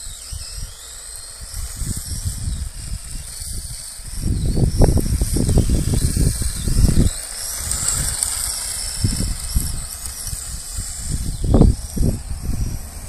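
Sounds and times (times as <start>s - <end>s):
rc car high whine: 0.0s - 13.0s
wind buffeting microphone: 0.0s - 13.0s.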